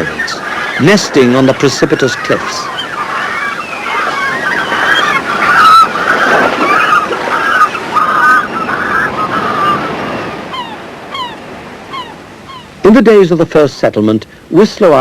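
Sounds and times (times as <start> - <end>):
seabirds crying: 0.0 - 13.4
surf washing: 0.0 - 15.0.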